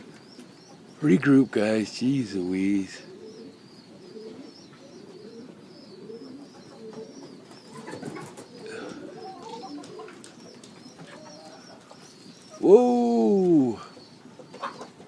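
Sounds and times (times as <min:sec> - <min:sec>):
faint bird chirps: 0:00.0 - 0:15.0
pigeons cooing: 0:00.0 - 0:15.0.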